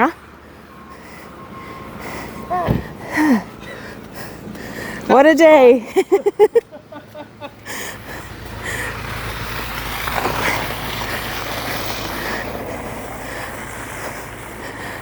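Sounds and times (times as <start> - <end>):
vehicle driving past: 0.0 - 5.1, 6.8 - 15.0.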